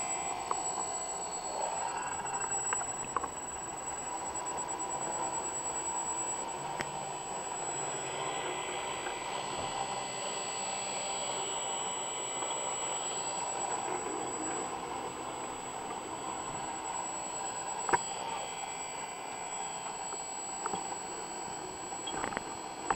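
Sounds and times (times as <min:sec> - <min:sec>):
engraver motors whining: 0:00.0 - 0:22.9.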